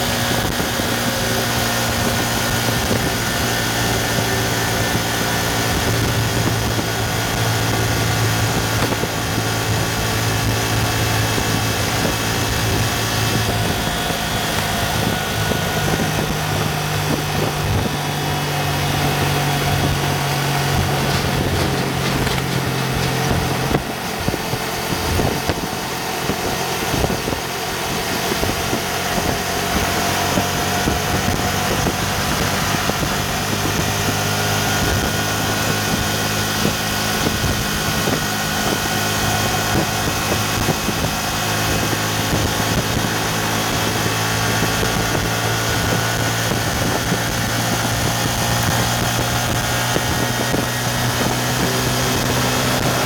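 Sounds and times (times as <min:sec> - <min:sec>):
motorcycle engine accelerating: 0:00.0 - 0:53.0
wind noise on microphone: 0:00.0 - 0:53.0.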